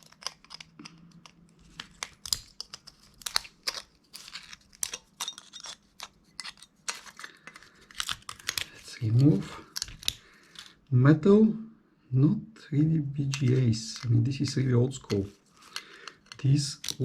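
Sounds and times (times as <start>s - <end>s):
plastic parts clicking and crunching: 0.0s - 10.9s, 13.2s - 17.0s.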